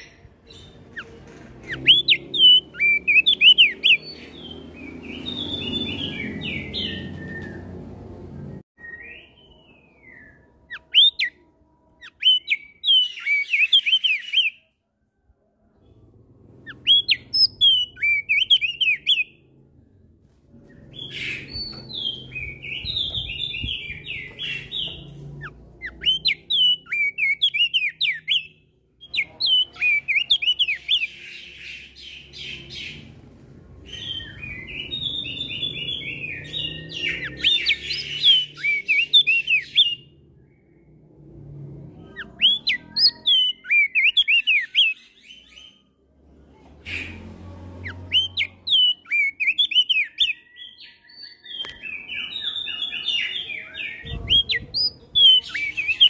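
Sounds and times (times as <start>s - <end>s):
other songbirds calling: 0.0s - 11.4s, 12.0s - 14.7s, 15.9s - 19.4s, 20.6s - 33.2s, 33.8s - 41.0s, 42.0s - 45.9s, 46.9s - 56.0s
bird chirping and whistling song: 0.0s - 14.7s, 16.6s - 19.4s, 20.6s - 33.2s, 33.8s - 40.1s, 42.1s - 45.8s, 47.8s - 56.0s.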